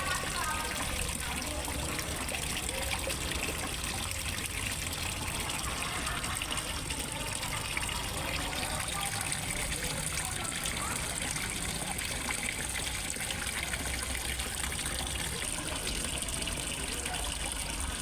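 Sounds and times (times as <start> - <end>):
water trickling into pond: 0.0 - 18.0.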